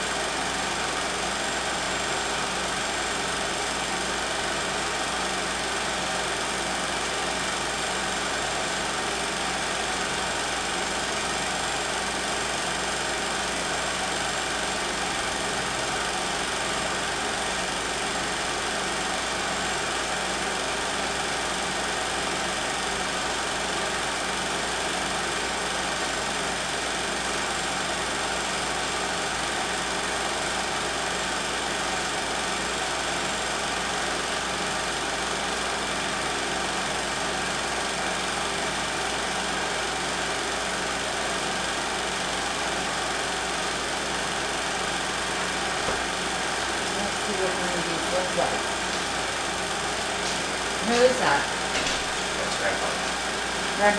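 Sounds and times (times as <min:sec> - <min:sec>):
film projector whirring and clattering: 0:00.0 - 0:53.9.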